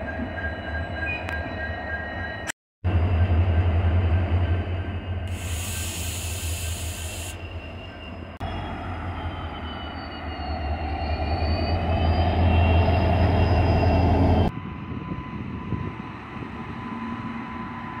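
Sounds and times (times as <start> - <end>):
electric locomotive humming: 0.0 - 18.0
diesel locomotive rumbling: 2.9 - 18.0.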